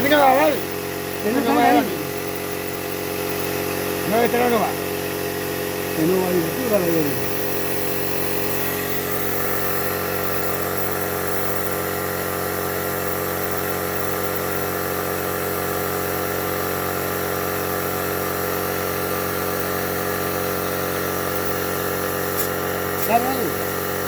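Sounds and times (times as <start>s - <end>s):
air compressor running: 0.0s - 24.0s.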